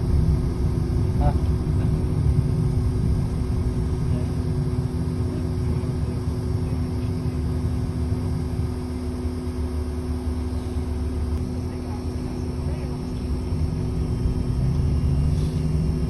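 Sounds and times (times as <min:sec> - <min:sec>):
bus engine and road rumble: 0:00.0 - 0:16.0
even hum: 0:00.0 - 0:16.0.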